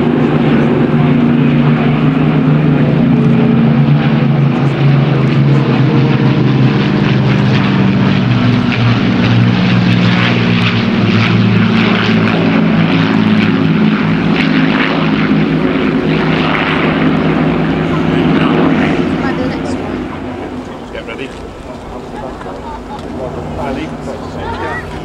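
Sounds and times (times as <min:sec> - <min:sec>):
propeller aircraft engines droning: 0:00.0 - 0:25.0.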